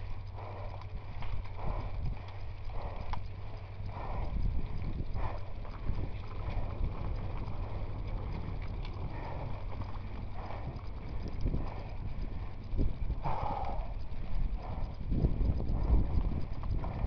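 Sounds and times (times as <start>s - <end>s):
mountain bike rattling over trail: 0.0s - 17.0s
wind rumble on microphone: 0.0s - 17.0s.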